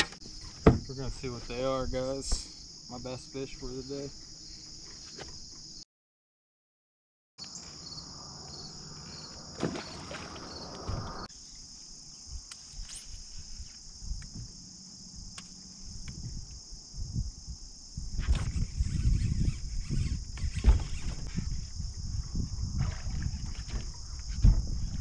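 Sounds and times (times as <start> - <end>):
high-pitched insect chorus: 0.1 - 5.8, 7.4 - 25.0.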